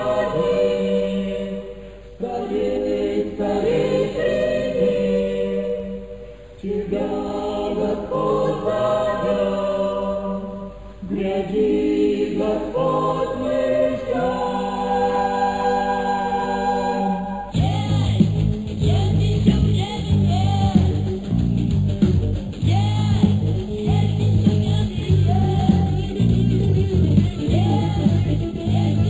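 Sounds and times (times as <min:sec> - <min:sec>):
choir singing a hymn: 0:00.0 - 0:19.5, 0:23.7 - 0:26.7, 0:27.4 - 0:29.0.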